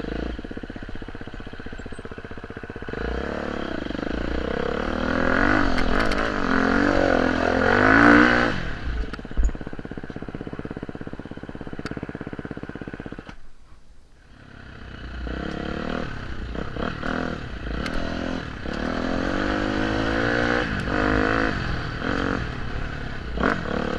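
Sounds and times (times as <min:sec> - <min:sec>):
motorcycle engine revving: 0:00.0 - 0:13.5, 0:14.2 - 0:23.9.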